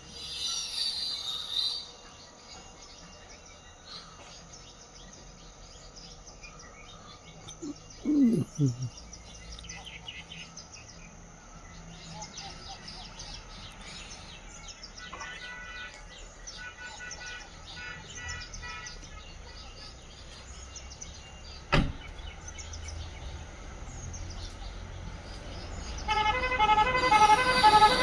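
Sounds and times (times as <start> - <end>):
small birds chirping: 0.0 - 26.3, 27.0 - 28.0.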